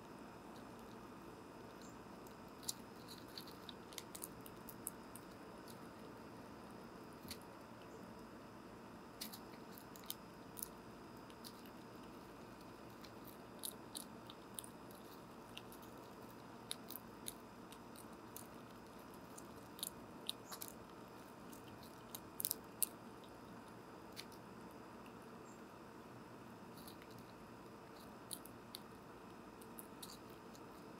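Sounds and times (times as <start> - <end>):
squirrel cracking and chewing seed: 0.0 - 30.9.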